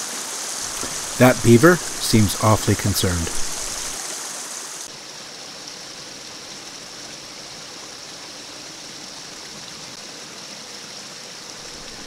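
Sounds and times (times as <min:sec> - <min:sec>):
water rushing through a dam: 0:00.0 - 0:12.0.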